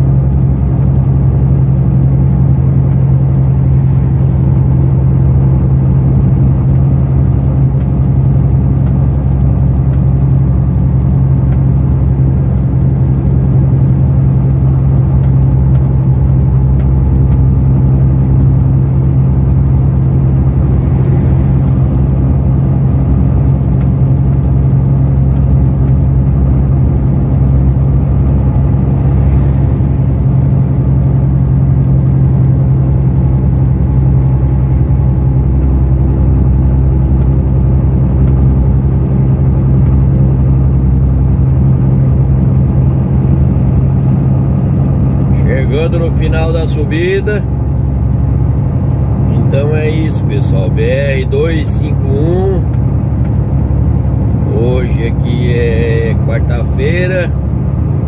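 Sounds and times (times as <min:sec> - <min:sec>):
road rumble: 0:00.0 - 0:58.0
truck diesel engine drone: 0:00.0 - 0:58.0.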